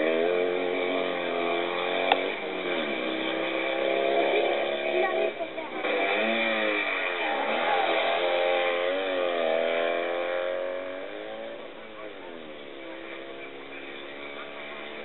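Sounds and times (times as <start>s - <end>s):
sports car engine revving hard: 0.0s - 15.0s.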